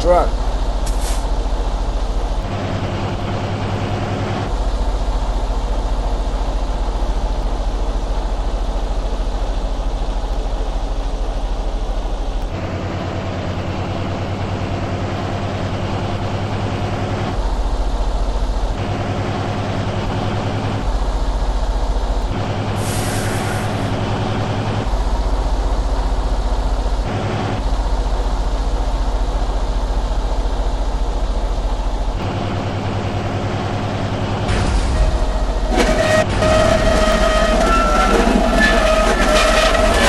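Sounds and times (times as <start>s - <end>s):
truck diesel engine drone: 0.0s - 40.0s.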